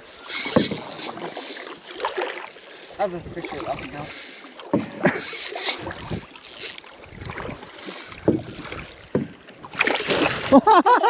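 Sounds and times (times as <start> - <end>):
knocks and bumps in a canoe: 0.0 - 10.8
water: 0.0 - 11.0
wind: 0.0 - 11.0.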